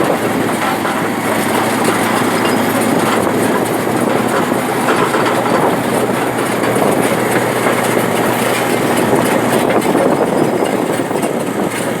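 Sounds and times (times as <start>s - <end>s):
continuous clattering rattle: 0.0s - 12.0s
diesel engine running: 0.0s - 12.0s.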